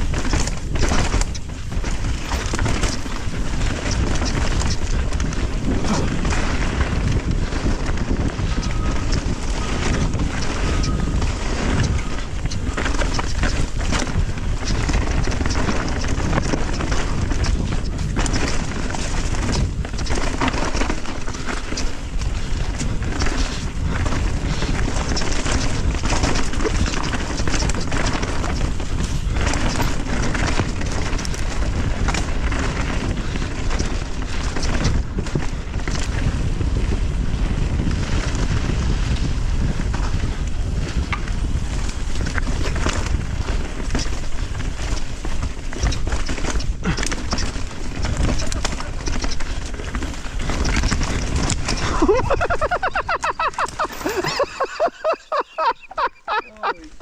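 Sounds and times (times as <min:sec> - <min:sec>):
bike knocks and rattles: 0:00.0 - 0:54.9
tyre roar on dirt: 0:00.0 - 0:55.1
wind buffeting microphone: 0:00.0 - 0:57.0.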